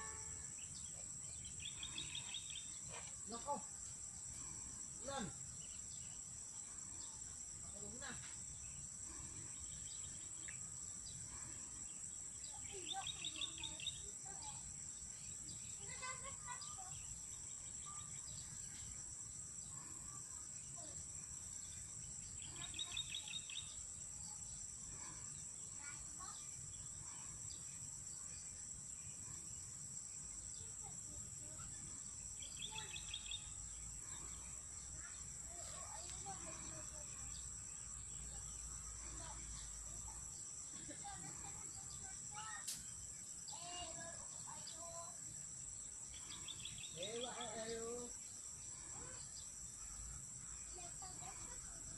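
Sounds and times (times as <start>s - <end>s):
insect drone: 0.0s - 51.9s.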